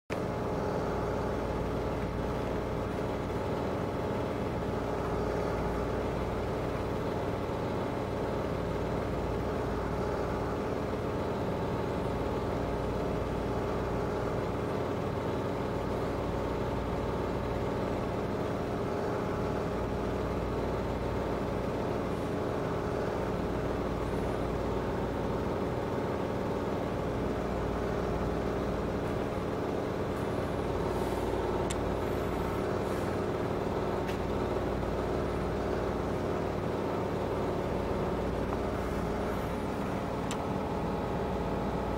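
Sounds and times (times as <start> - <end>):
machine humming: 0.1 - 41.9.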